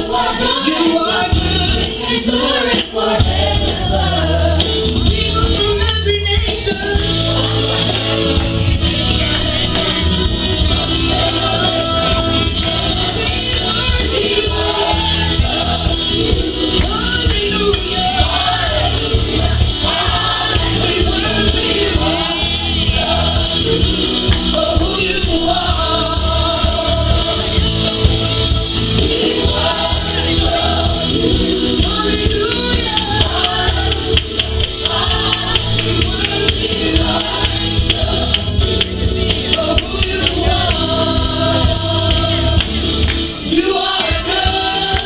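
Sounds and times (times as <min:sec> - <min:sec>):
gospel singers with band: 0:00.0 - 0:45.0
steady bass: 0:01.2 - 0:02.5, 0:03.1 - 0:45.0.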